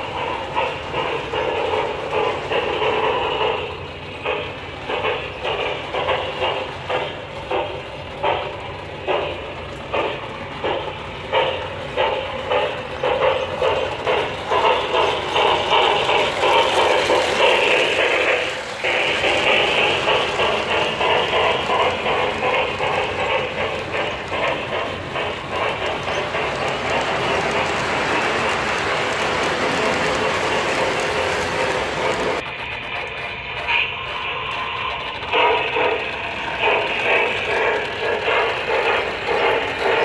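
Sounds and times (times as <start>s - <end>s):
model freight cars rolling: 0.0s - 40.0s
model train wheels clacking: 0.0s - 40.0s.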